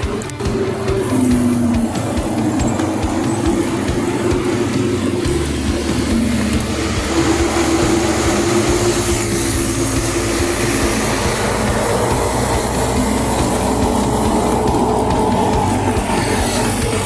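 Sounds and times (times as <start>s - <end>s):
electric scooter hum: 0.0s - 17.0s
road noise: 0.0s - 17.0s.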